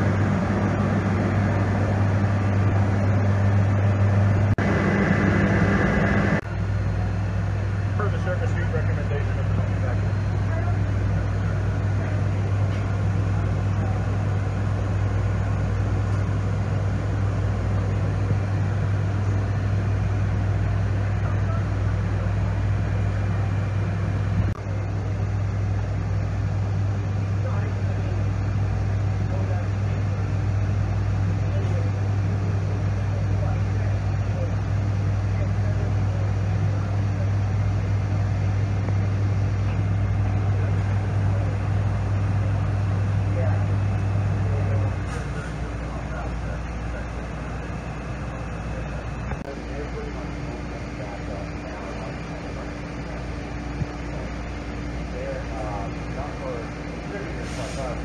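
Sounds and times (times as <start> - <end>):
grinder low hum: 0.0 - 58.0.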